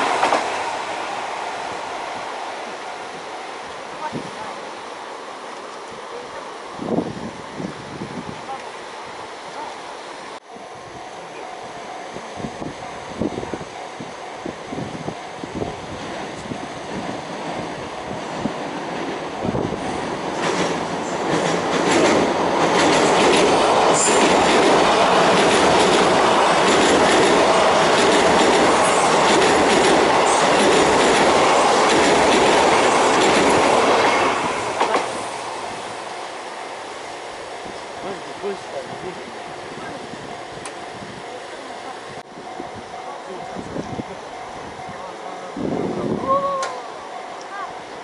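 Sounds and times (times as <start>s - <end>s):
electric train wheel and rail noise: 0.0s - 48.0s.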